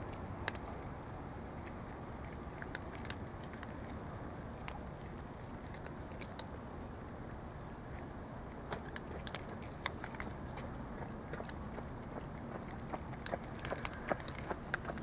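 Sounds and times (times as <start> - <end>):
cats crunching dry kibble: 0.0 - 15.0
low background noise: 0.0 - 15.0.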